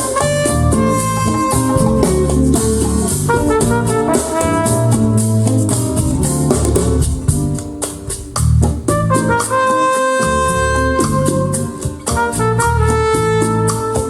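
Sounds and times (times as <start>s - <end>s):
latin jazz over a loudspeaker: 0.0s - 14.0s.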